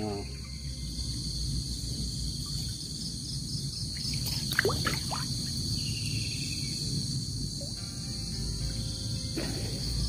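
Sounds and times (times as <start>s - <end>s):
low rumble of water and wind: 0.0s - 8.1s
shrill insect chorus: 0.0s - 10.0s.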